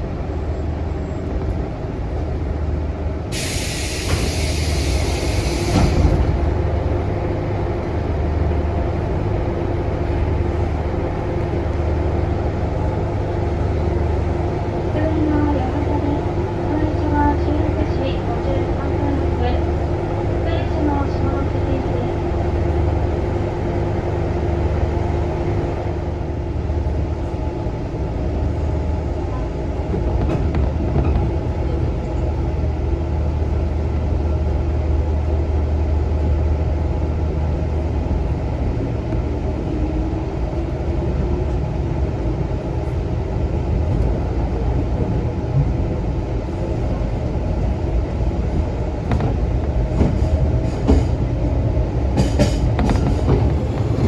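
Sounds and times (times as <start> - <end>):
diesel train engine drone: 0.0 - 54.0.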